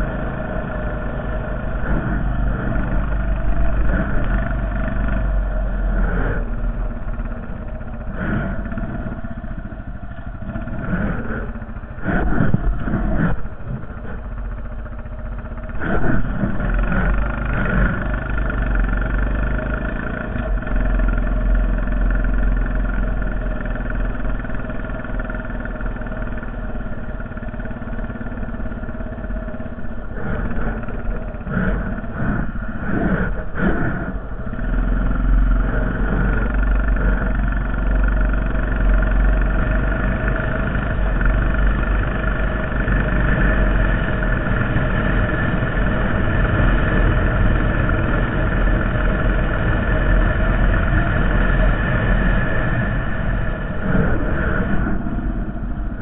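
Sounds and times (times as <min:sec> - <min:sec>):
atv engine running under load: 0:00.0 - 0:56.0.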